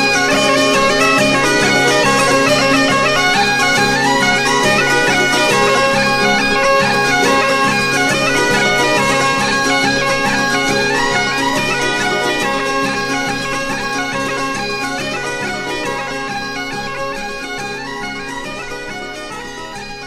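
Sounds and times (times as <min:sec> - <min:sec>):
bagpipe tune over drone: 0:00.0 - 0:20.0.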